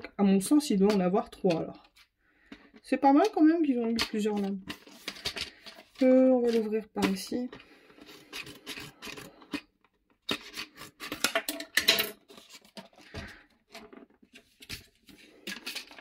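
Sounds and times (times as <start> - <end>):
packaging crackling and scraping: 1.3 - 16.0.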